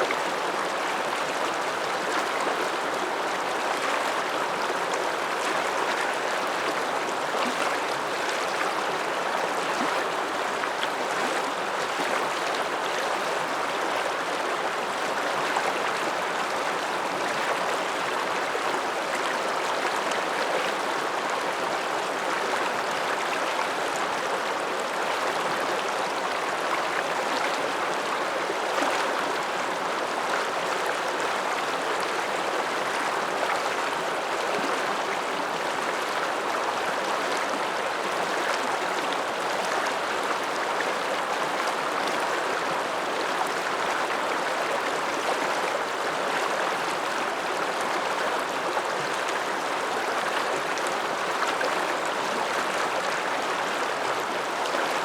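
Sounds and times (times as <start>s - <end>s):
mountain river rushing: 0.0s - 55.0s.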